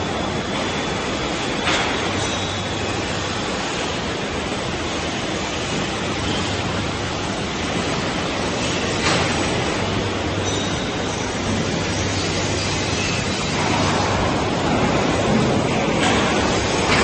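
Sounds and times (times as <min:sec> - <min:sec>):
concrete mixer truck running: 0:00.0 - 0:17.0.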